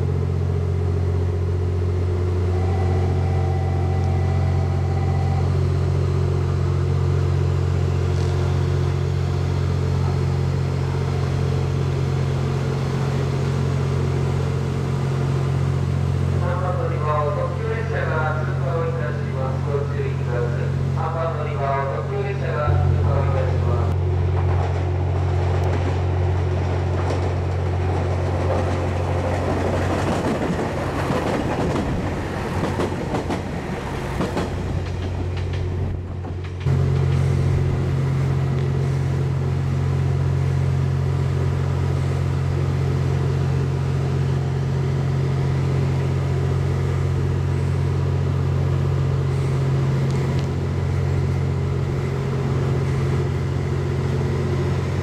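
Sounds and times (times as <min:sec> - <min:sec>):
train engine humming: 0:00.0 - 0:55.0.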